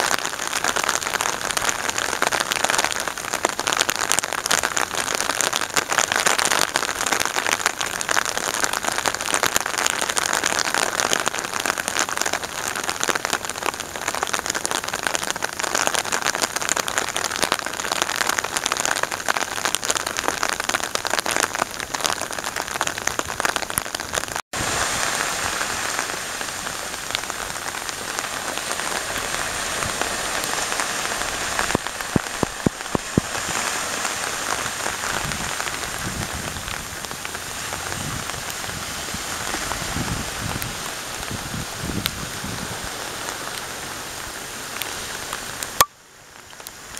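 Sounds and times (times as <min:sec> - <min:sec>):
crackling hiss of water: 0:00.0 - 0:46.9.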